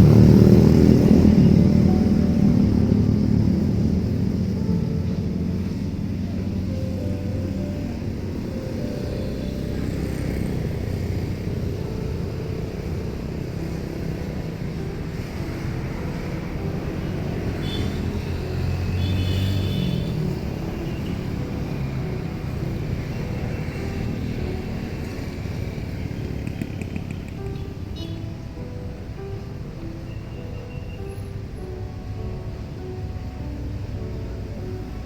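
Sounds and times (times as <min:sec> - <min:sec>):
engines rumbling: 0:00.0 - 0:35.0.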